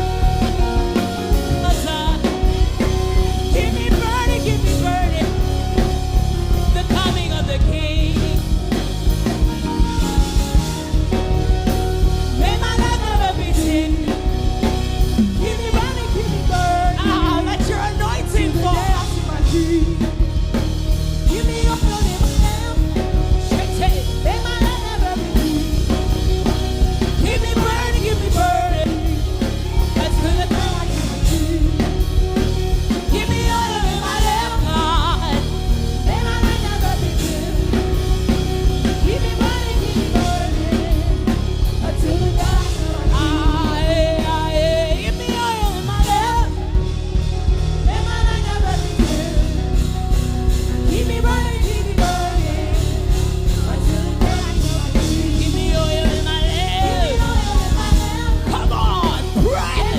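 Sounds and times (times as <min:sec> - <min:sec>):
band playing worship music: 0:00.0 - 0:59.9
drum kit beat: 0:00.0 - 0:59.9
person singing: 0:00.0 - 0:59.9.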